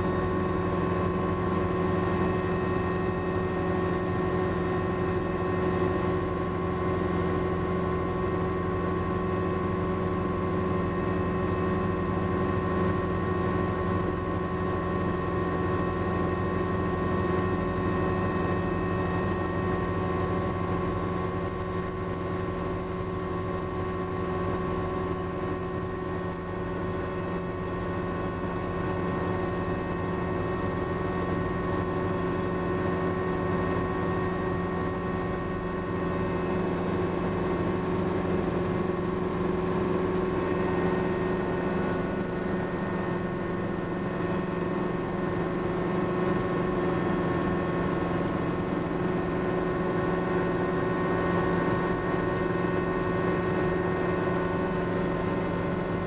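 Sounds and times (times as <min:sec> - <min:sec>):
helicopter engine and rotors droning: 0:00.0 - 0:56.0.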